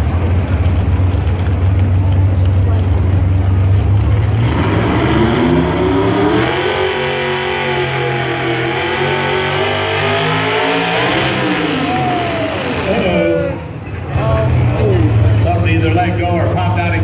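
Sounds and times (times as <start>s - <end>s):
truck engine at full throttle: 0.0s - 17.0s.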